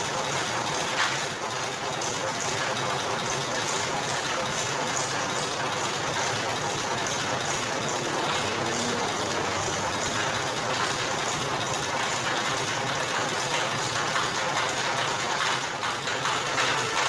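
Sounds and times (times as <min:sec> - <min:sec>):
sugarcane juice press motor running: 0:00.0 - 0:17.0.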